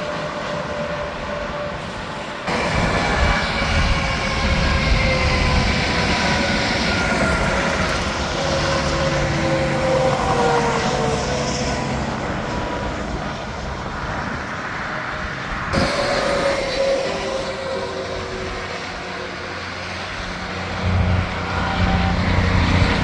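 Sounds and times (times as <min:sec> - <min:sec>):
highway traffic tyre noise: 0:00.0 - 0:23.0
trucks passing with falling whine: 0:00.0 - 0:23.0.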